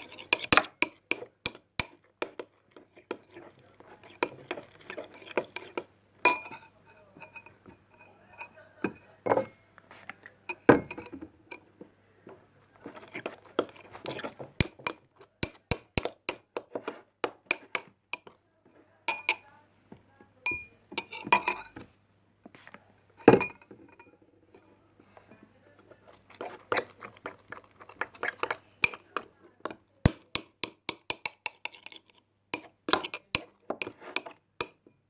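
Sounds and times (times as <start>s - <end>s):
spoon clinking against bowl: 0.0s - 9.6s, 10.5s - 11.7s, 12.9s - 19.5s, 20.5s - 21.8s, 22.6s - 35.0s.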